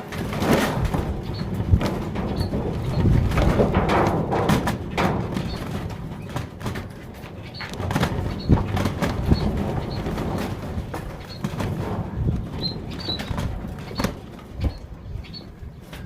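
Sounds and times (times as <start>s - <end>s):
doves moving with thumps: 0.0s - 16.0s.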